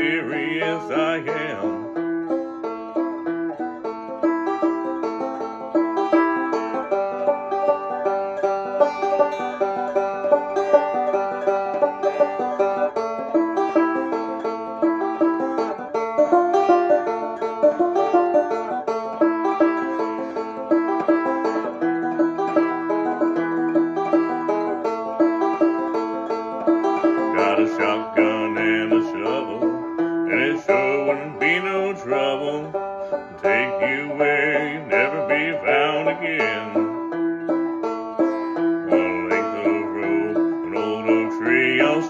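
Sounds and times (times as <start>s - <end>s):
banjo picking fast notes: 0.0s - 42.0s.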